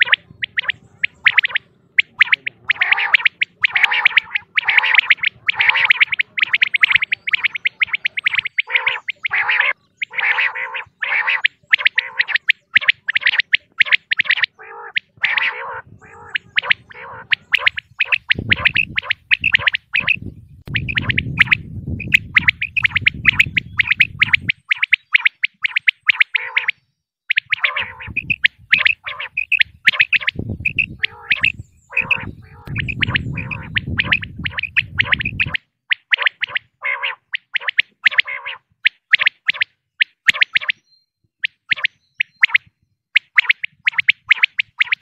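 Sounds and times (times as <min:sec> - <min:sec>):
quail chirping calls: 0:00.0 - 0:45.0.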